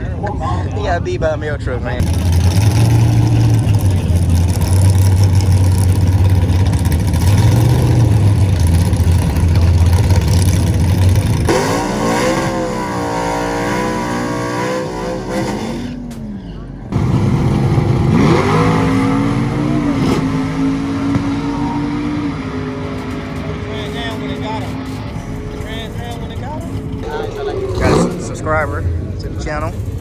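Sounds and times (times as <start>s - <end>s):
car engine revving: 0.0s - 30.0s
loud low engine rumble: 0.0s - 30.0s.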